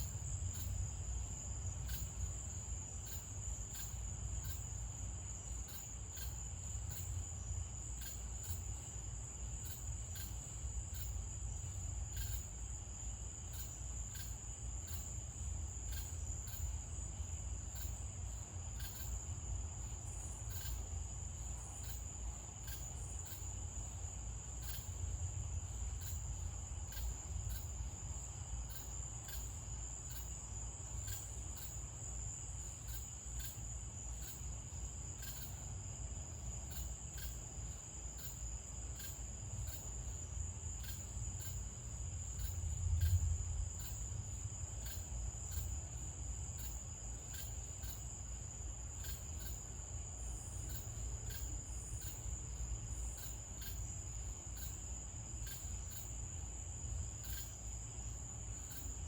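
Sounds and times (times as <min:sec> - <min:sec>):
crickets trilling: 0:00.0 - 0:59.0
repeating cricket chirp: 0:00.0 - 0:59.0.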